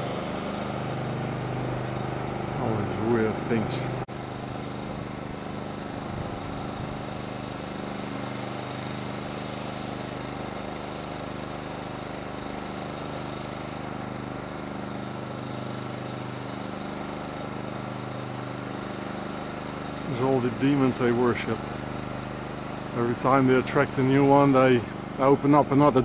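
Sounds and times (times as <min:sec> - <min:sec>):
motor running steadily: 0:00.0 - 0:26.0.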